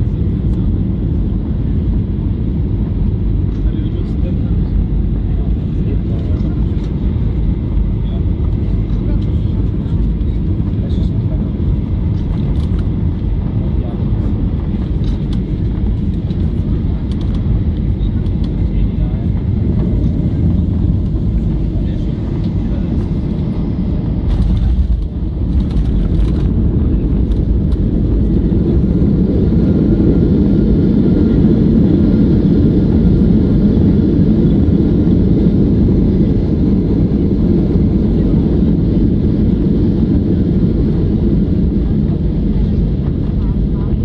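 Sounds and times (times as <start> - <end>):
roar of engines and airflow: 0.0 - 44.0.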